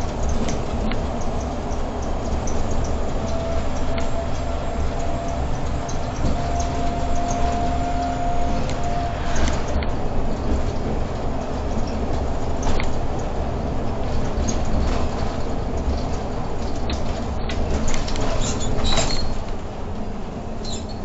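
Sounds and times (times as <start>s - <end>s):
rattles and clicks: 0.0s - 7.7s, 8.5s - 19.6s
bus engine and road rumble: 0.0s - 21.0s.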